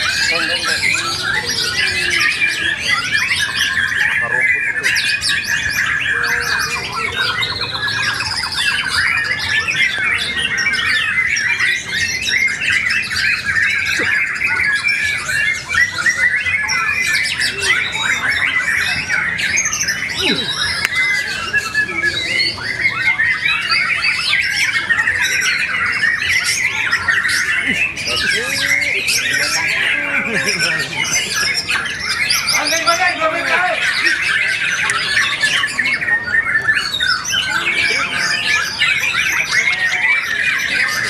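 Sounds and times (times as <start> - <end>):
birds singing in chorus: 0.0 - 41.0.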